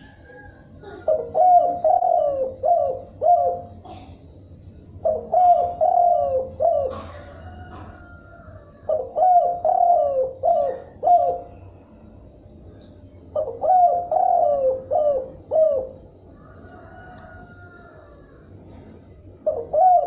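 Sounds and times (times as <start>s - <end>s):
dove cooing: 0.0s - 4.2s, 4.9s - 11.7s, 13.3s - 20.0s.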